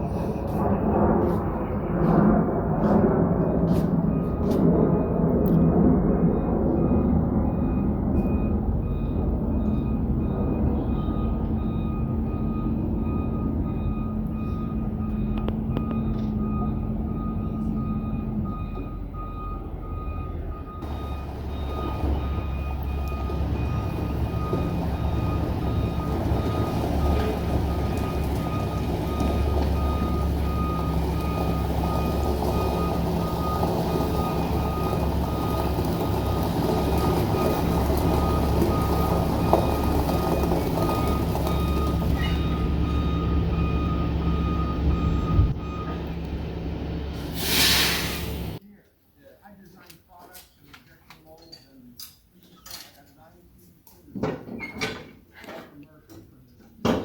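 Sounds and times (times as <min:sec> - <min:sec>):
vehicle engine running: 0:00.0 - 0:47.4
reversing alarm beeping: 0:02.9 - 0:48.6.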